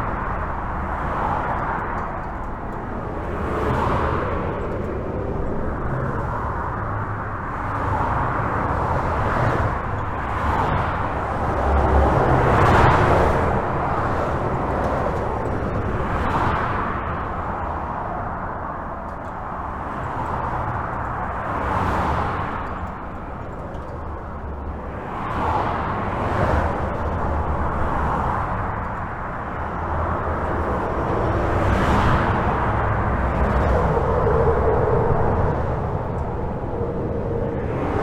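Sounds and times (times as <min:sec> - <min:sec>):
highway traffic rushing: 0:00.0 - 0:38.0
vehicles passing by: 0:00.0 - 0:38.0.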